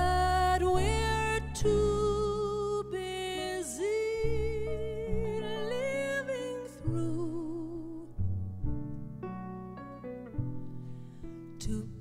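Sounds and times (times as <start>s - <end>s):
jazz ballad melody with vibrato: 0.0s - 12.0s
piano chords: 0.0s - 12.0s
plucked double bass: 0.0s - 12.0s.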